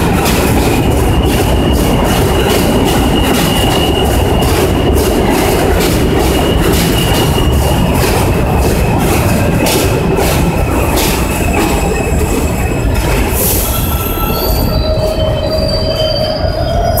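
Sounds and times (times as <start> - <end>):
wheels clacking over rail joints: 0.0 - 14.9
subway train wheels rumbling: 0.0 - 17.0.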